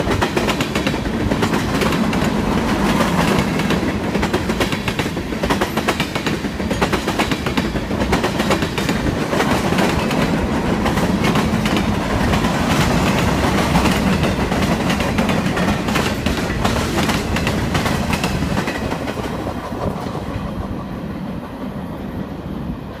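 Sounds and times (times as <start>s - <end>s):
train wheels clacking over rail joints: 0.0s - 21.7s.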